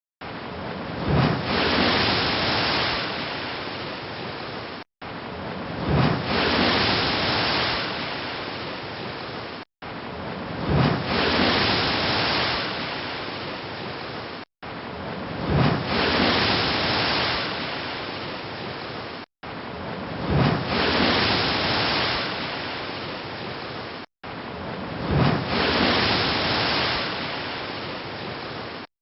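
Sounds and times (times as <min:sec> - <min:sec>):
sea waves breaking on shore: 0:00.2 - 0:28.9.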